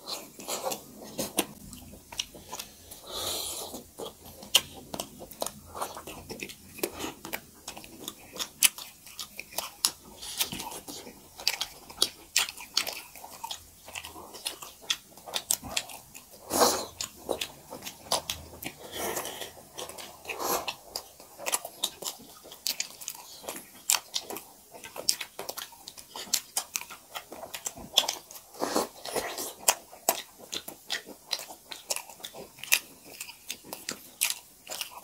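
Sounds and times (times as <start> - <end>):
people eating with lip smacks: 0.0 - 35.0.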